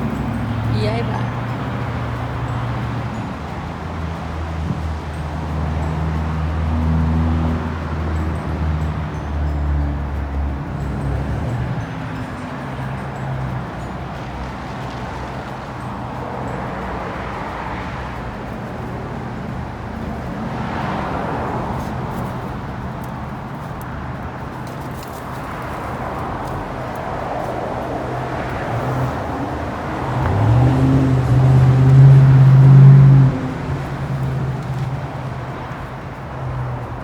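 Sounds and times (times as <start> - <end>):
engine hum: 0.0 - 37.0
traffic road noise: 0.0 - 37.0.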